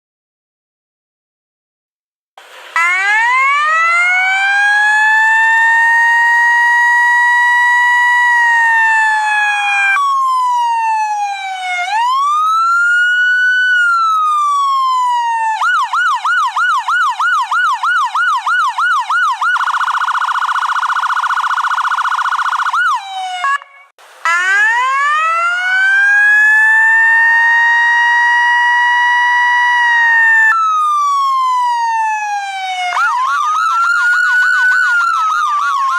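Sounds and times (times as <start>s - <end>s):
electronic siren wailing and yelping: 2.8s - 35.9s.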